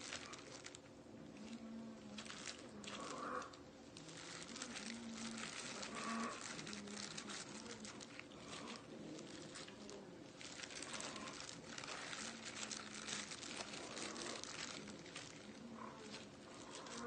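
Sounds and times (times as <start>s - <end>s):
plastic gloves crinkling: 0.0s - 17.0s.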